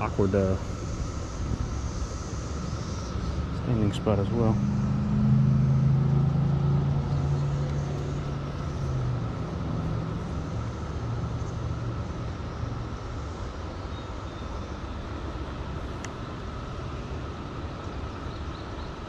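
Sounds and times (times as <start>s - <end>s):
passing vehicle engine drone: 0.0s - 19.0s.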